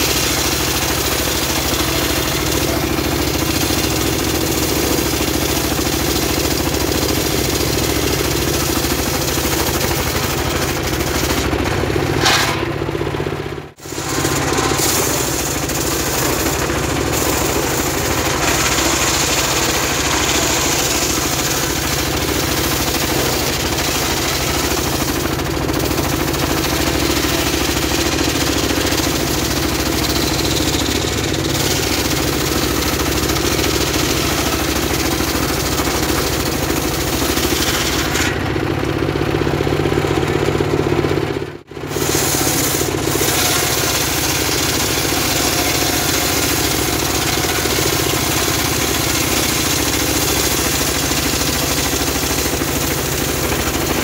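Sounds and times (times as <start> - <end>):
circular saw blade rasping through wood: 0.0 - 12.8, 13.8 - 38.4, 41.9 - 54.0
engine running under load: 0.0 - 54.0.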